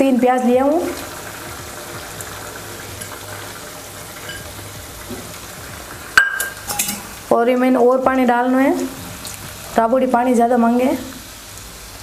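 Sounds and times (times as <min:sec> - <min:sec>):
gravy sizzling and bubbling: 0:00.0 - 0:12.0.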